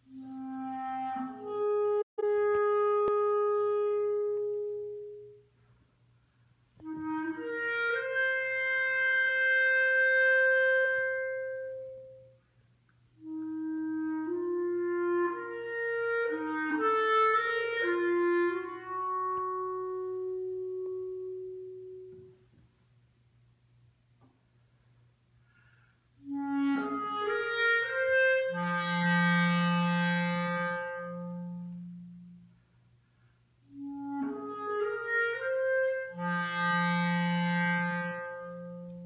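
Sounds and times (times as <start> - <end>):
wind and brass chords: 0.0 - 5.4, 6.8 - 12.4, 13.2 - 22.4, 25.6 - 32.7, 33.6 - 39.0.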